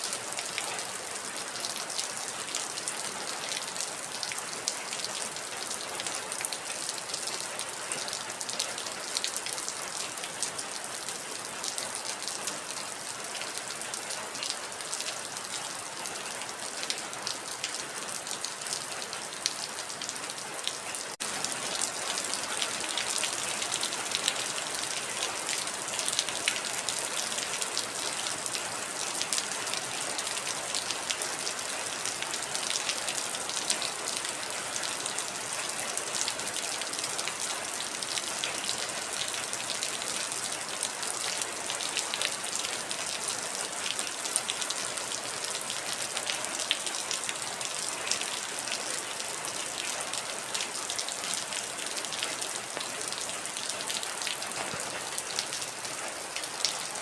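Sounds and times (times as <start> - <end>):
heavy rain on hard surface: 0.0 - 57.0.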